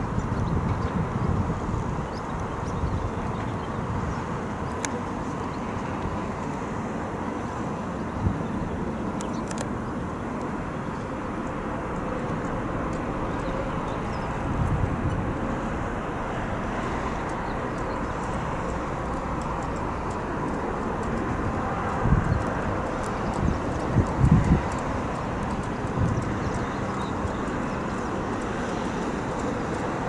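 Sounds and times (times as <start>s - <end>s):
jet engines idling: 1.7s - 30.0s.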